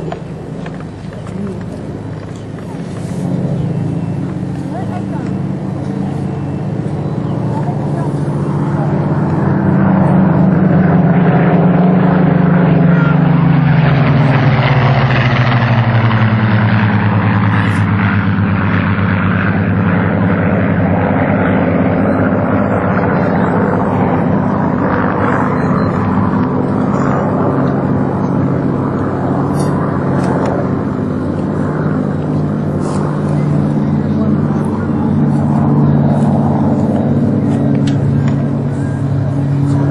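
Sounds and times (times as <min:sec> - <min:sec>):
propeller planes flying past: 0:00.0 - 0:39.9.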